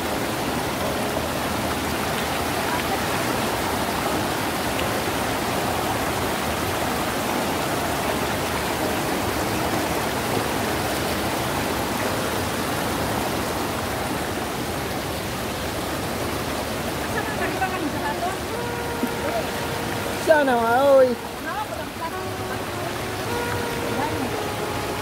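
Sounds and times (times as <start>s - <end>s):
river rushing over boulders: 0.0s - 25.0s.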